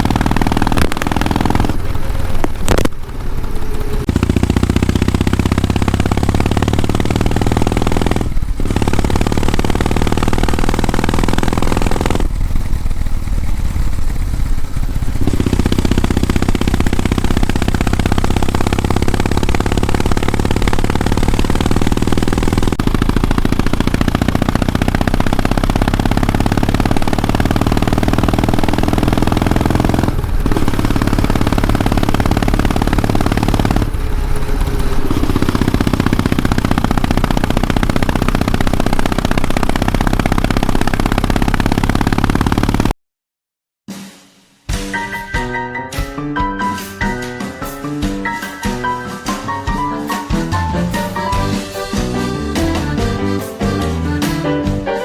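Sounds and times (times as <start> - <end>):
motorcycle exhaust running: 0.0 - 43.0, 49.9 - 54.9.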